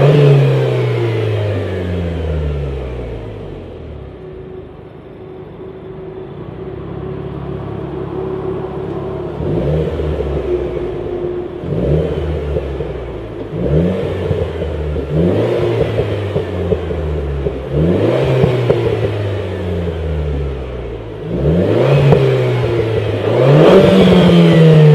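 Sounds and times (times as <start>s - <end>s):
car engine revving: 0.0s - 5.2s, 6.2s - 24.9s.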